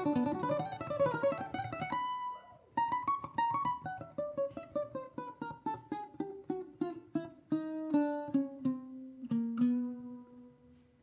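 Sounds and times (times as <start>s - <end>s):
plucked string melody: 0.0s - 10.9s.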